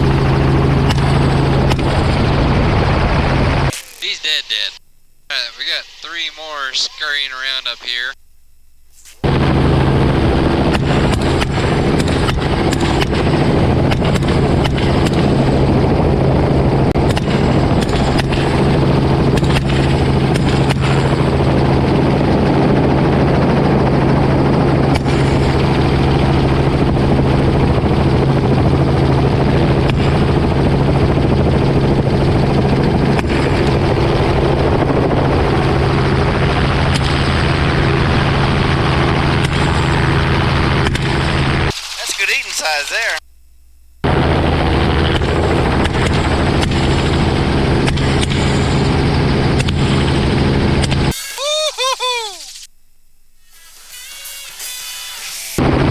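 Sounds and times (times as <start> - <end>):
helicopter rotor and engine: 0.0 - 8.2, 9.2 - 43.2, 44.0 - 52.7, 55.6 - 55.9.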